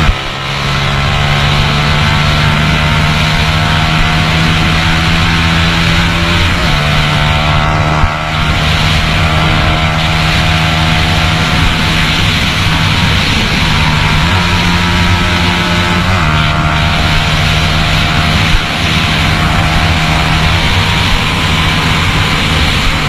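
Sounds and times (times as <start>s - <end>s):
motorcycle engine at high revs: 0.0s - 23.0s
wind rushing over microphone: 0.0s - 23.0s.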